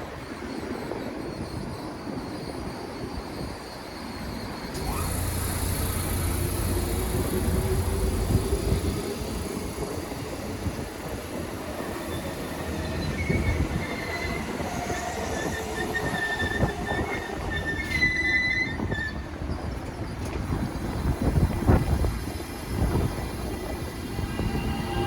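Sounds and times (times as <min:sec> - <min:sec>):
electric train rumbling past: 0:00.0 - 0:25.0
wheels squealing: 0:00.4 - 0:25.0.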